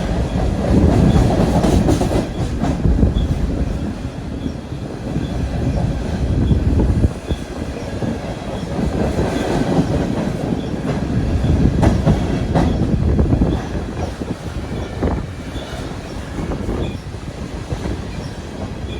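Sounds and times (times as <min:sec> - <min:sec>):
wheels clacking over rail joints: 0:00.0 - 0:17.0
train rumbling past: 0:00.0 - 0:18.9.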